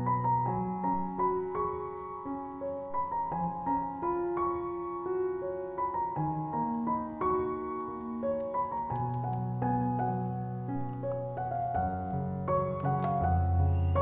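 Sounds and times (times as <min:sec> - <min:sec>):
slow gentle piano melody: 0:00.0 - 0:14.0.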